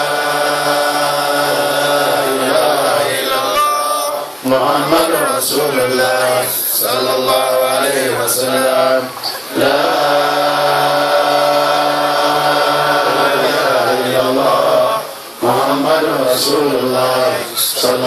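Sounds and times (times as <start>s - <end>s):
man chanting: 0.0s - 10.9s, 13.1s - 18.0s.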